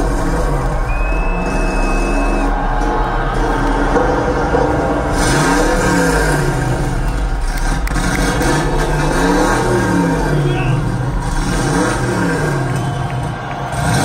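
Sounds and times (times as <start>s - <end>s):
low rumble: 0.0s - 13.7s
car engine revving over loudspeakers: 0.0s - 14.0s.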